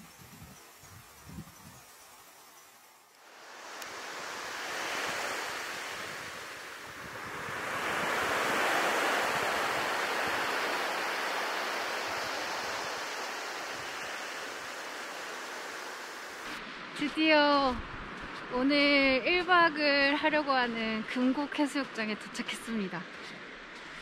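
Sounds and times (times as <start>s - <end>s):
sea waves washing onto beach: 0.0s - 22.0s.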